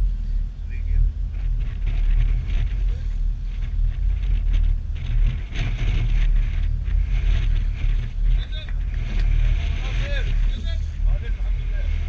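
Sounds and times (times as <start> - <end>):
wind buffeting microphone: 0.0 - 12.0
sea water washing along hull: 1.3 - 12.0.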